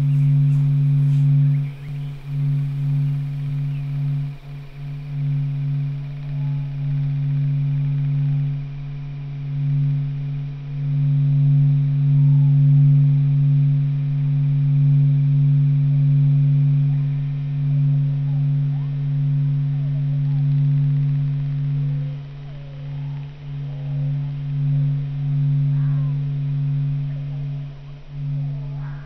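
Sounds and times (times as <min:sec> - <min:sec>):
low humming drone: 0:00.0 - 0:29.0.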